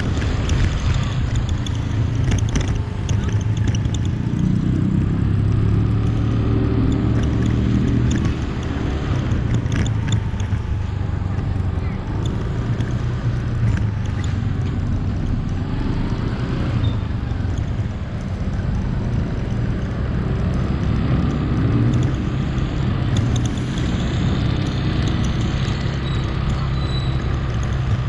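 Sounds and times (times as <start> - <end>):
vehicle engine and tyre rumble: 0.0 - 28.0.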